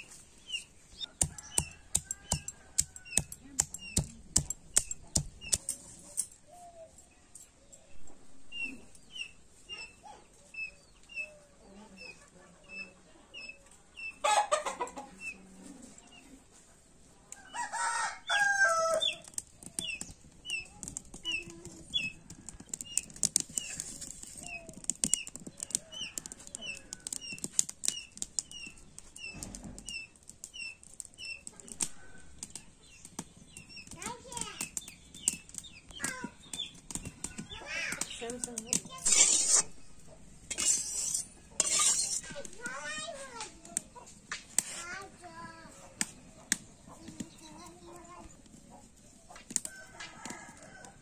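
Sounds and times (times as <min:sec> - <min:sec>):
small bird chirping: 0:00.0 - 0:16.4, 0:19.0 - 0:50.8.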